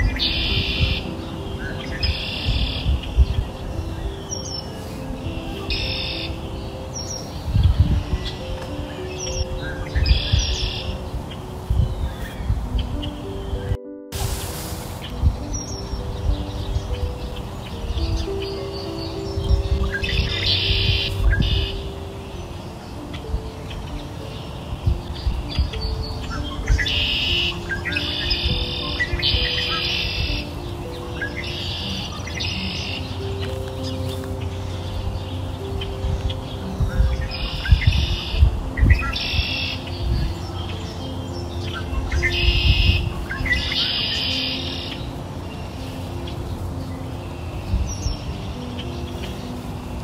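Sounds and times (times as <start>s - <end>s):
birds chirping and trilling: 0.0s - 50.0s
soft sustained background music: 0.0s - 50.0s.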